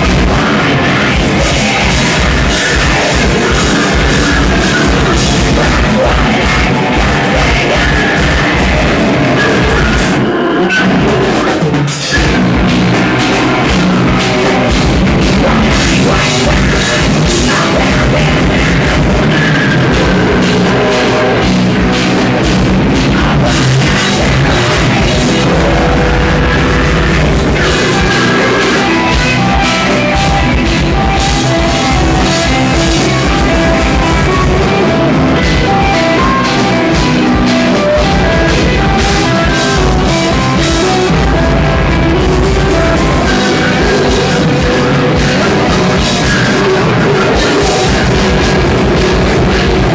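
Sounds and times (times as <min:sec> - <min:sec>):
heavy metal band playing live: 0:00.0 - 0:49.9.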